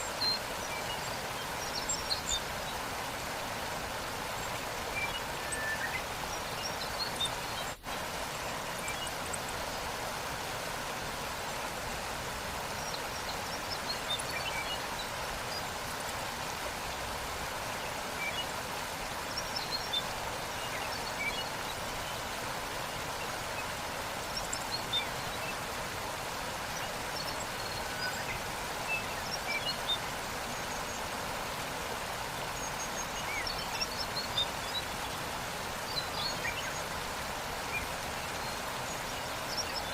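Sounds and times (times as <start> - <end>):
small birds chirping: 0.0 - 39.9
waterfall rushing: 0.0 - 39.9.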